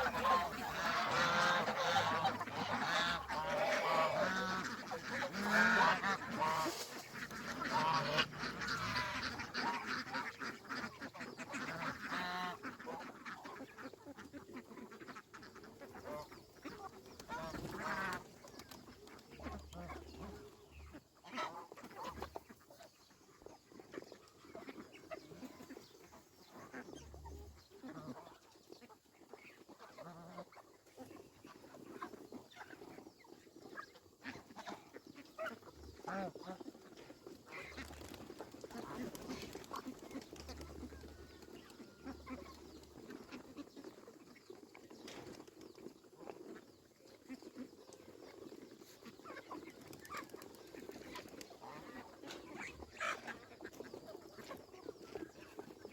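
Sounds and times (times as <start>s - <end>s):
geese and ducks calling: 0.0s - 55.9s.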